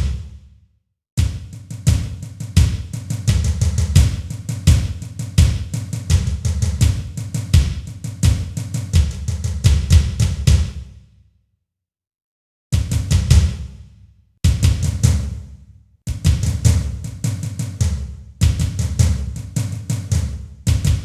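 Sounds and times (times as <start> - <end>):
bass drum and snare hits: 0.0 - 0.6, 1.2 - 11.0, 12.8 - 21.0.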